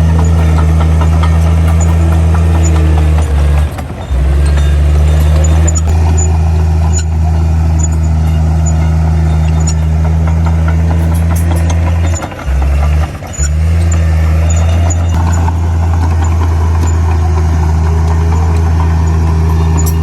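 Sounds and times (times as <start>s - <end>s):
heavy diesel engine droning: 0.0s - 20.0s.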